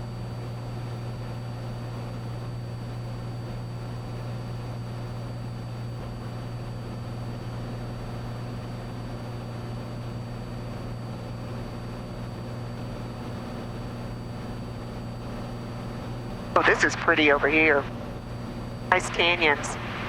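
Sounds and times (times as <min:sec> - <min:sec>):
aircraft engine droning in cabin: 0:00.0 - 0:20.0.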